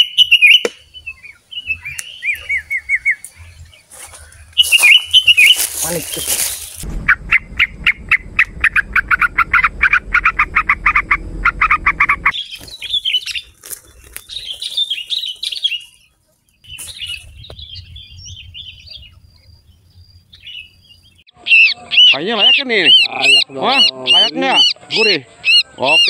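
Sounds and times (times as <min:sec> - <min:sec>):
songbird chattering and chirping: 0:00.0 - 0:26.0.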